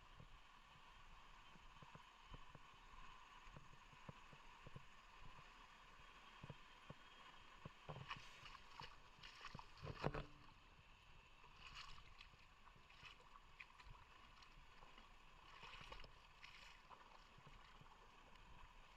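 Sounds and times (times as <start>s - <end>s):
faint river water running: 0.0s - 18.9s.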